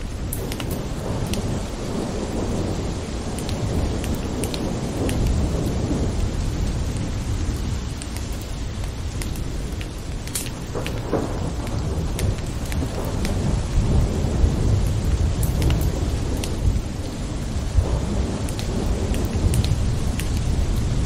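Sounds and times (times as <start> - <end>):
rolling thunder: 0.0 - 21.0
steady rain: 0.0 - 21.0.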